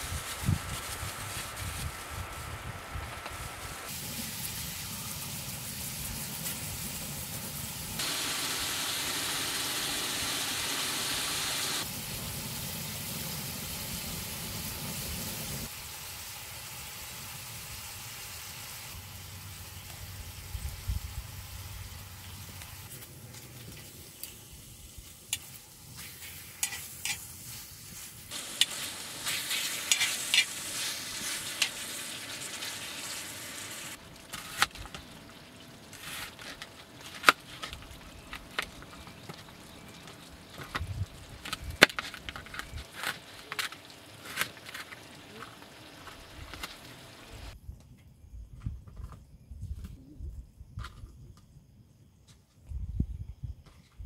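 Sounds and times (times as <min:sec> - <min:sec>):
meat sizzling in a pan: 0:00.0 - 0:23.0, 0:23.8 - 0:47.6.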